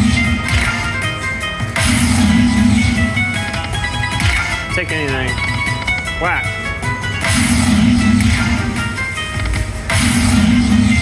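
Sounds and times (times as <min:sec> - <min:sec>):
slot machine electronic music: 0:00.0 - 0:11.0.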